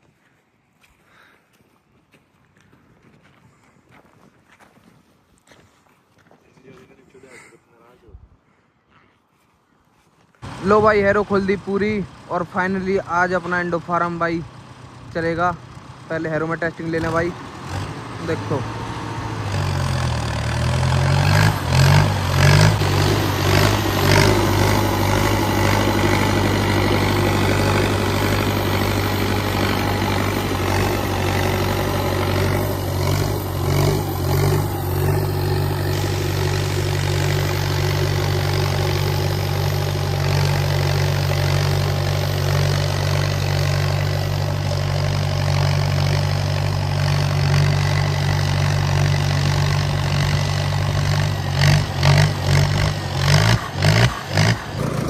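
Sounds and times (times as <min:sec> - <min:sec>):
tractor diesel engine under load: 0:10.4 - 0:55.0.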